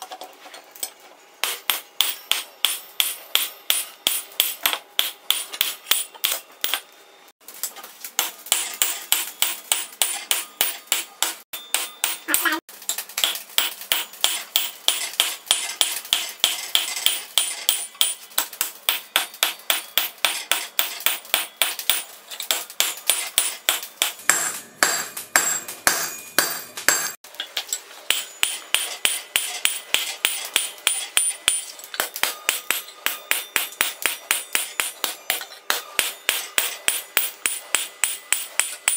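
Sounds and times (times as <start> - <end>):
hammer striking steel on anvil: 1.4 - 6.8, 8.2 - 12.6, 13.2 - 27.2, 28.1 - 38.9.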